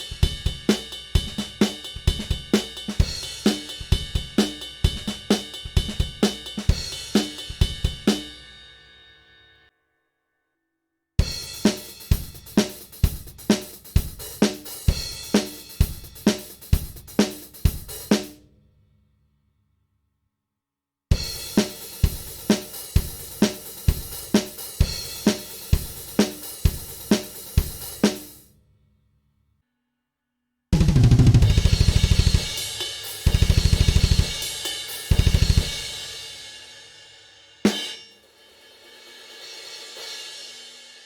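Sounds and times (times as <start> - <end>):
cymbals and hi-hat wash: 0.0 - 9.0, 11.3 - 18.3, 21.2 - 28.5, 31.4 - 41.0.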